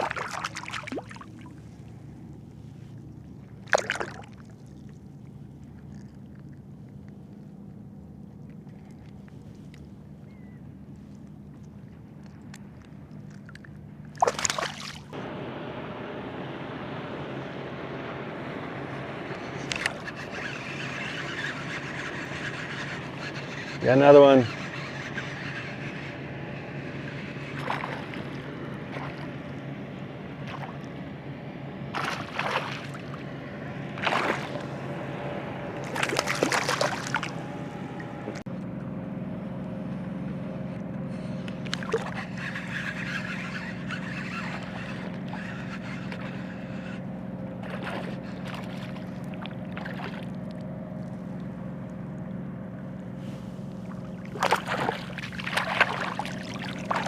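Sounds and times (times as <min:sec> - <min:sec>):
water splashes: 0:00.0 - 0:15.2, 0:19.3 - 0:29.7, 0:31.9 - 0:35.0, 0:35.8 - 0:38.5, 0:41.6 - 0:47.0, 0:47.6 - 0:57.0
boat motor running: 0:00.0 - 0:57.0.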